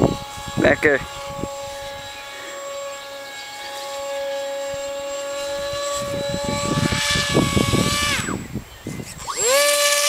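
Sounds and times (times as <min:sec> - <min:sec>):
model plane motor whining: 0:00.0 - 0:10.0.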